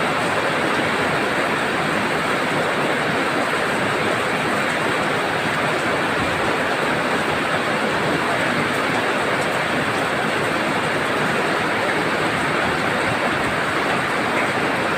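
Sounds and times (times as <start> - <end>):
heavy rain pouring: 0.0 - 14.9.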